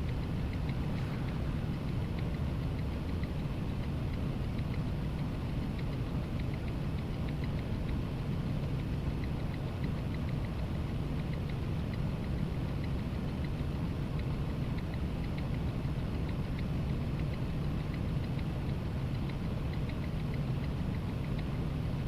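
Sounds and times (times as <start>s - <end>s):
light ticks and rattles: 0.0s - 22.0s.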